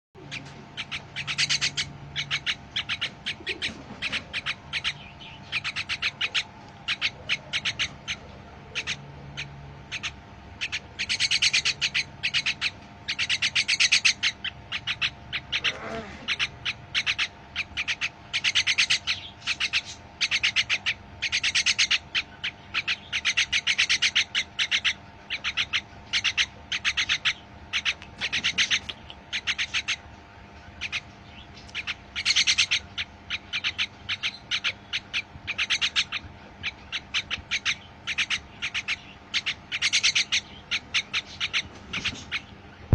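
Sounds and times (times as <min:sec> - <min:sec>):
birds chirping: 0:00.2 - 0:42.9.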